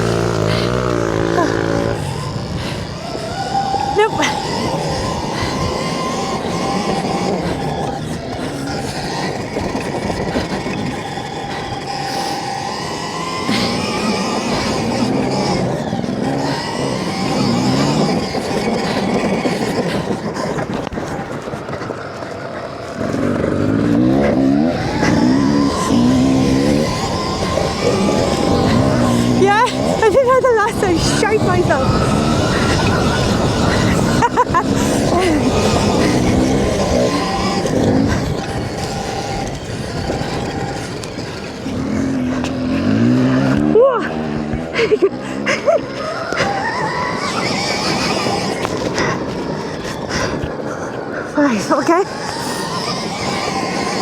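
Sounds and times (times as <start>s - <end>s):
electric motorbike motor whining: 0.0s - 54.0s
steady rushing noise: 0.0s - 54.0s.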